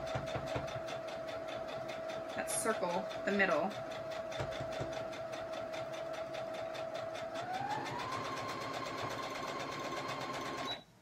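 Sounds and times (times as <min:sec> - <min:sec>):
sewing machine motor whine: 0:00.2 - 0:10.8.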